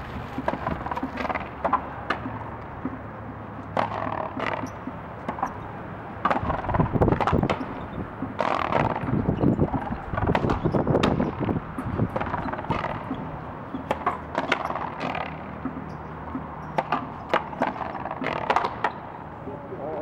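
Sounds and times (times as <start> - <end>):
rackets hitting rubber ball: 0.3 - 19.1.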